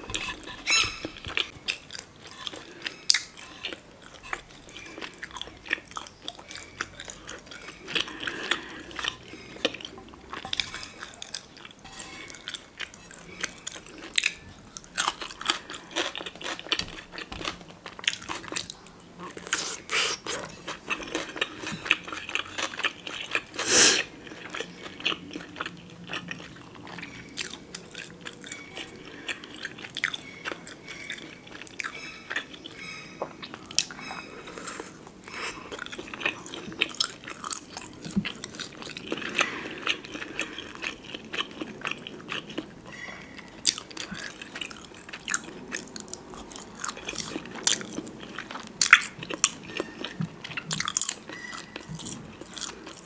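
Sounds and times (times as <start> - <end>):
person chewing soft food: 0.0 - 53.0.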